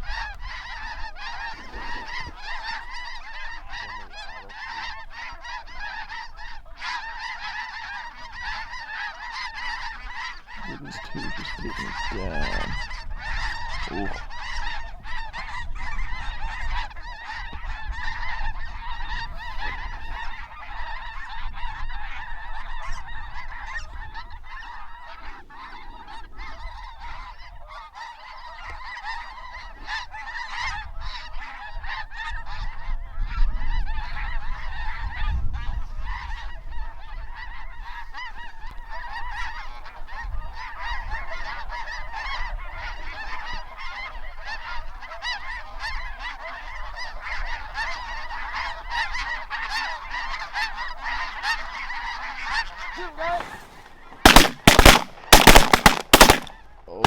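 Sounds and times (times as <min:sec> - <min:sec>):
snow geese honking: 0:00.0 - 0:57.0.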